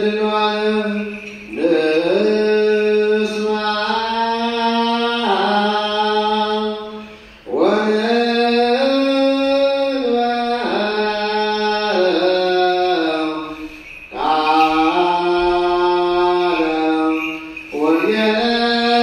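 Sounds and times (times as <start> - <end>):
person chanting long held notes: 0.0 - 19.0.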